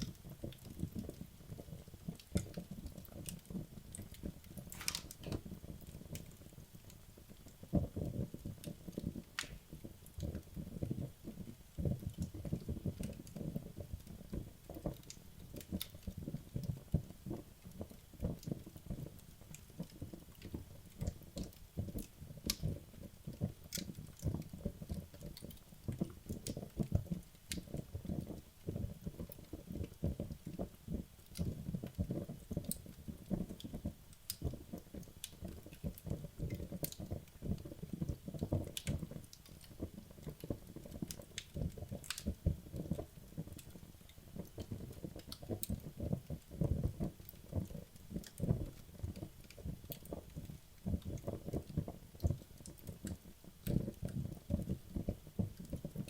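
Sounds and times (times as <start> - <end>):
fire crackling in fireplace: 0.0 - 56.0.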